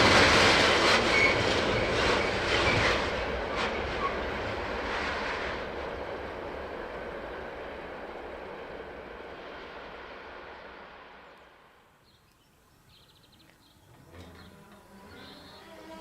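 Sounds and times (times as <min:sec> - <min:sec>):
passing train rolling: 0:00.0 - 0:16.0.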